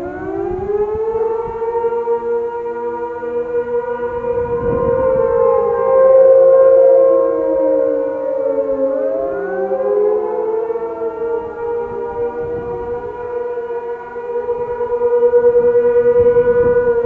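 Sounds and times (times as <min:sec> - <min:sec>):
warning sirens rising and falling: 0:00.0 - 0:17.0.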